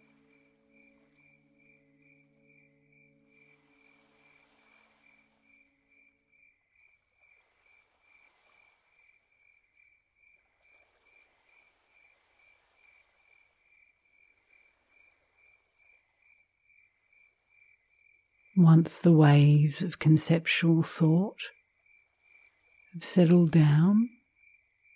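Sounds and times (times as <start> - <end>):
cricket chirping: 0.0 - 18.6, 21.2 - 23.0, 24.1 - 24.9.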